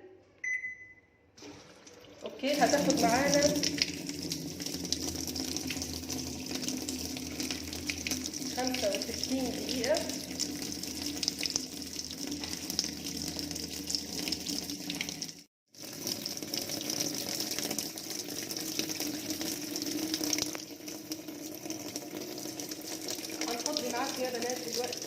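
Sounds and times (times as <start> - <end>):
water rushing into washing machine: 1.4 - 25.0.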